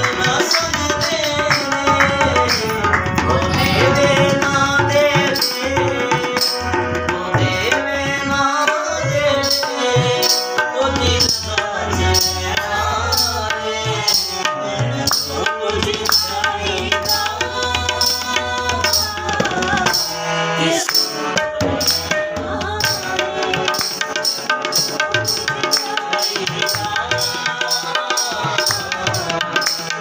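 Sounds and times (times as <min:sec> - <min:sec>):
harmonium chords: 0:00.0 - 0:30.0
man singing: 0:00.0 - 0:30.0.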